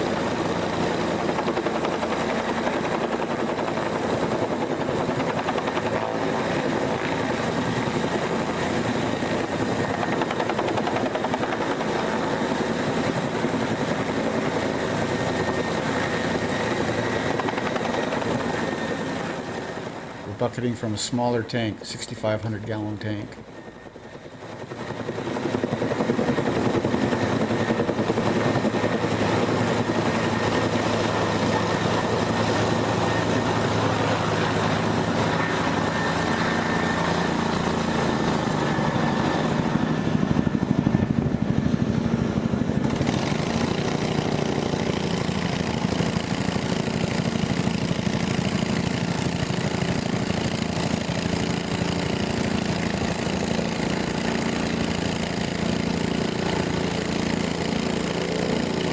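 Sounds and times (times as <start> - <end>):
helicopter hovering overhead: 0.0 - 58.9.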